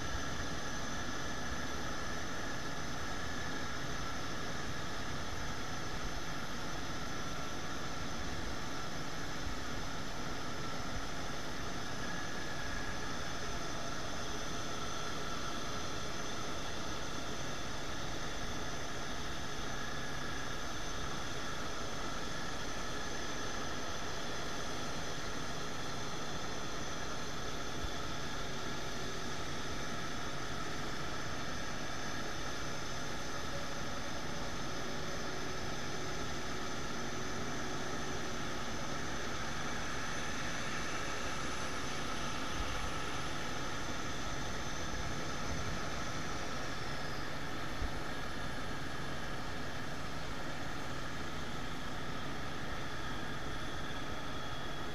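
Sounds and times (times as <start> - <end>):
jet engine whine: 0.0 - 54.9.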